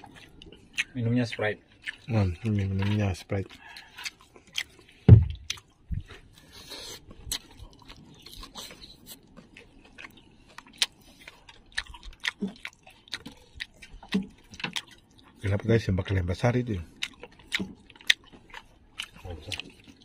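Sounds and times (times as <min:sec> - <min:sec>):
person chewing with mouth smacks: 0:00.0 - 0:20.0.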